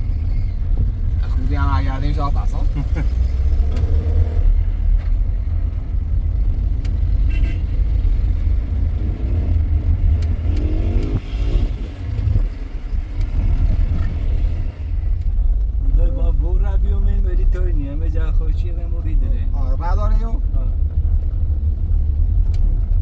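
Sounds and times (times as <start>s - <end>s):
car engine and road drone: 0.0s - 23.0s.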